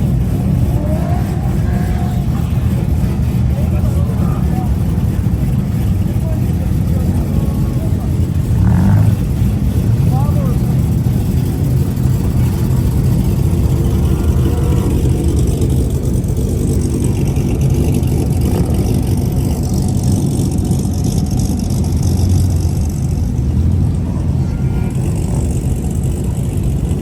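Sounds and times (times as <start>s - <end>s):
car engine exhaust rumble: 0.0s - 27.0s.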